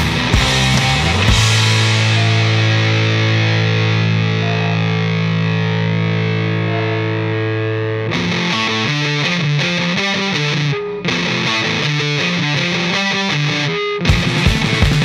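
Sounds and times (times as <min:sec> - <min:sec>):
distorted electric guitar rock music: 0:00.0 - 0:15.0.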